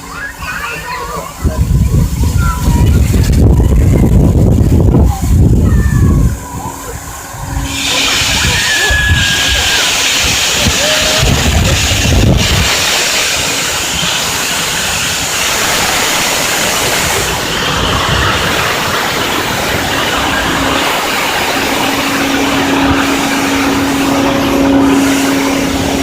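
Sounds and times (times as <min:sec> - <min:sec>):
steam locomotive hiss and rumble: 0:00.0 - 0:26.0.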